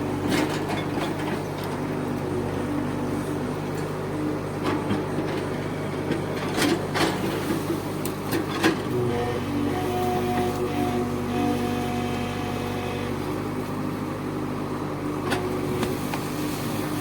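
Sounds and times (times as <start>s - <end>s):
bulldozer diesel engine: 0.0s - 17.0s.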